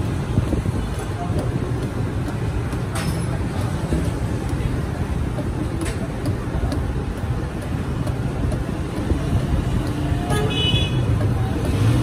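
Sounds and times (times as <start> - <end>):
wooden stick churning in metal pot: 0.0 - 10.3
street traffic rumble: 0.0 - 12.0.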